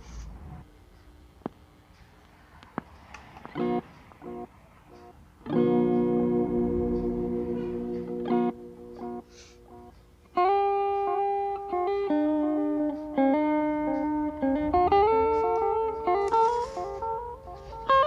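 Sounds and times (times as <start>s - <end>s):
electric guitar with delay: 3.4s - 18.0s.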